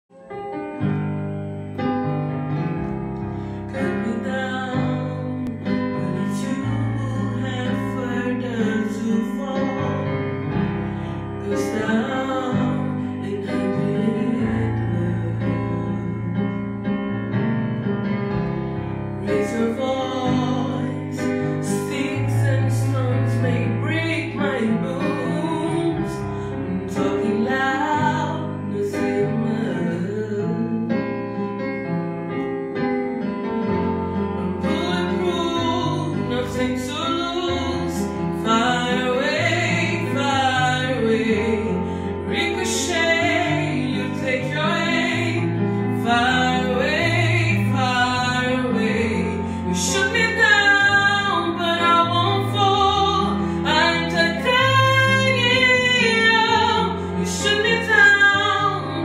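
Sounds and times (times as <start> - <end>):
digital piano playing chords: 0.1 - 59.0
woman singing: 3.7 - 16.4, 19.2 - 31.1, 34.4 - 59.0.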